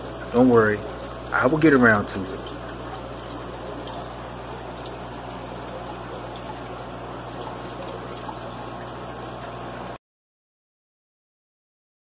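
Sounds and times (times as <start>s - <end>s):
aquarium filter water trickling: 0.0s - 10.0s
low pump hum: 0.0s - 10.0s.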